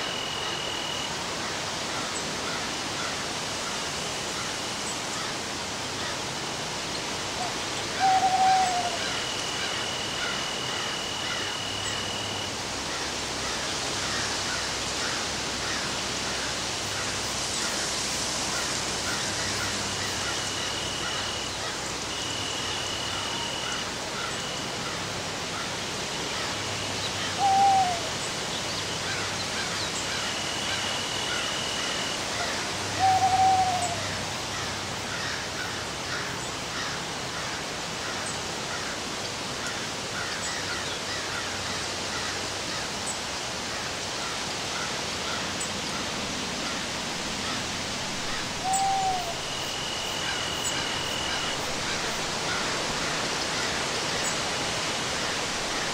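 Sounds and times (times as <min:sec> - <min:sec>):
steady hiss: 0:00.0 - 0:55.9.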